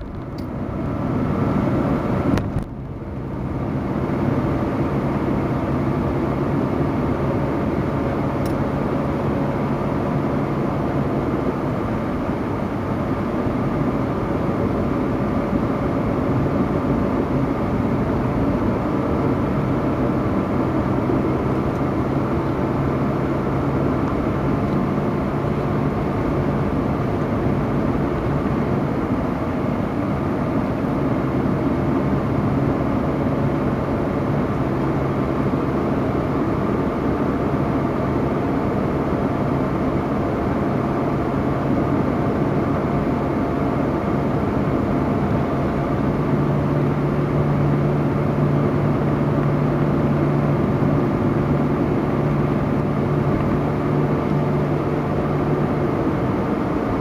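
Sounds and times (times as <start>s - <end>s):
car engine hum: 0.0s - 57.0s
tyre road noise: 0.0s - 57.0s.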